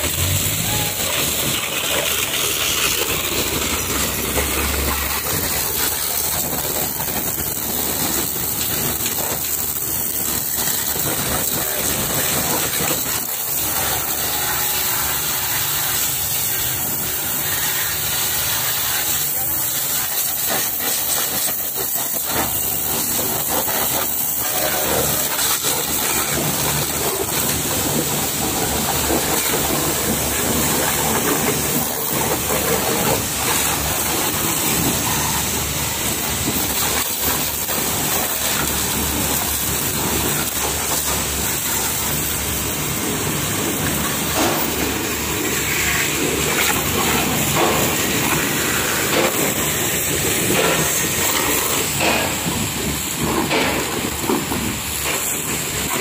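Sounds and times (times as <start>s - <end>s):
pressure washer water jet spraying: 0.0s - 56.0s.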